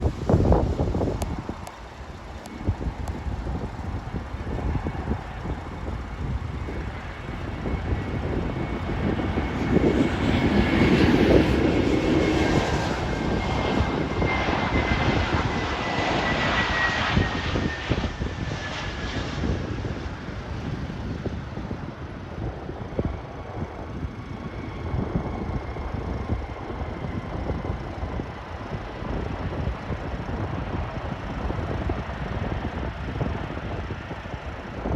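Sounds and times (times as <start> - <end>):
jet airliner passing by: 0.0 - 34.9.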